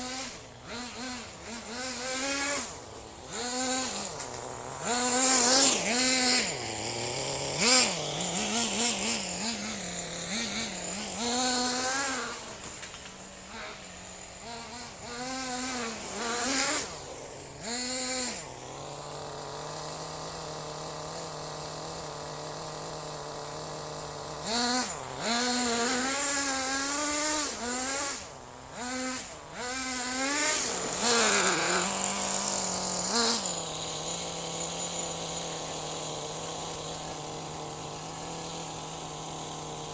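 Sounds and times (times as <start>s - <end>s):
small rc engine revving: 0.0s - 39.9s.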